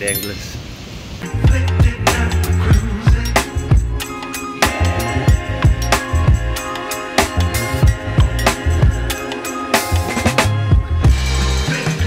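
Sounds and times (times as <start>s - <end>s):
music with drum beat and bass: 1.2s - 12.0s.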